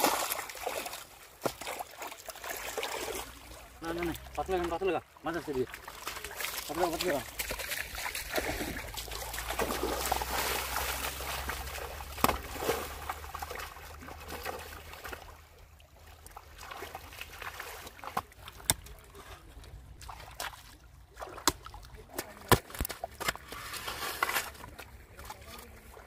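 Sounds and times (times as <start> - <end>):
stream water splashing: 0.0 - 26.0.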